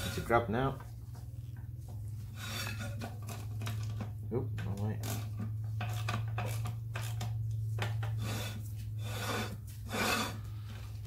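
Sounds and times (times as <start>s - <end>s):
brake shoes scraping inside drum: 0.0s - 11.0s.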